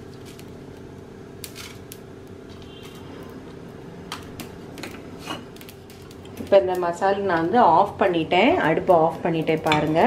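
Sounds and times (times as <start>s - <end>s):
spices rustling in a dry pan: 0.0s - 3.4s, 4.3s - 10.0s
steady low hum: 0.0s - 10.0s.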